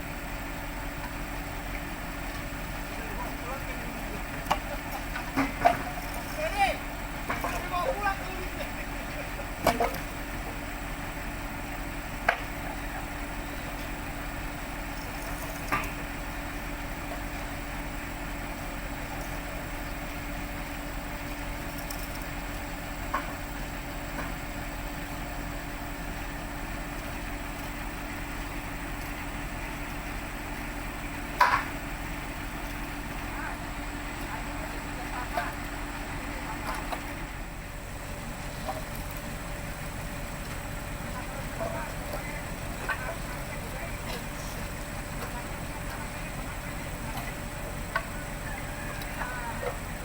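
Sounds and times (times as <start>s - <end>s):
heavy equipment engine idling: 0.0s - 50.0s.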